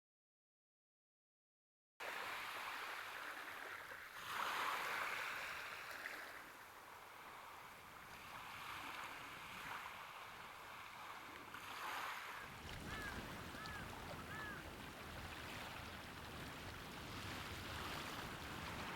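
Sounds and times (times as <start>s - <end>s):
small waves washing onto shore: 2.0s - 18.9s.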